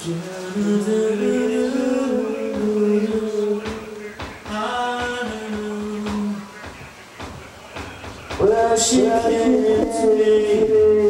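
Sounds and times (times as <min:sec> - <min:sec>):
person singing long wordless notes: 0:00.0 - 0:06.6, 0:08.4 - 0:11.0.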